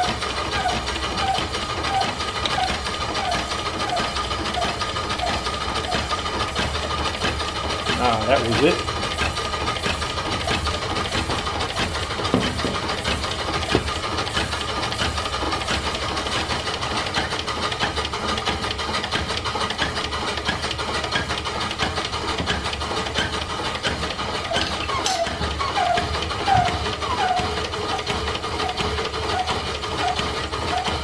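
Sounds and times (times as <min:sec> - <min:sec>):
steam pump running: 0:00.0 - 0:31.0
valve gear knocking: 0:00.0 - 0:31.0.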